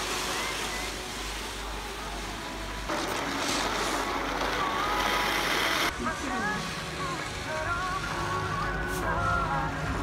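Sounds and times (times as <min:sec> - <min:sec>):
skis sliding over packed snow: 0:00.0 - 0:10.0.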